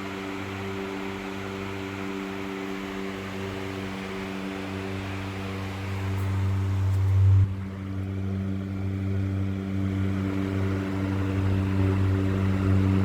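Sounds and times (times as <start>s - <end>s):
ceiling fan motor hum: 0.0s - 13.0s
rush of air from fan: 0.0s - 13.0s.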